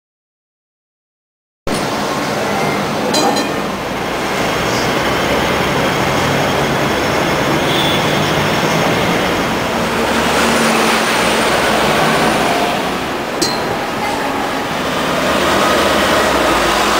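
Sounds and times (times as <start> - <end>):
electric tram passing: 1.7 - 16.9
street traffic din: 1.7 - 16.9.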